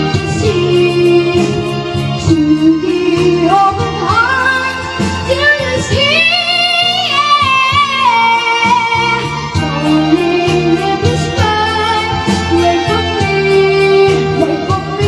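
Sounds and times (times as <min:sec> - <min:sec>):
high singing voice: 0:00.0 - 0:15.0
musical accompaniment: 0:00.0 - 0:15.0.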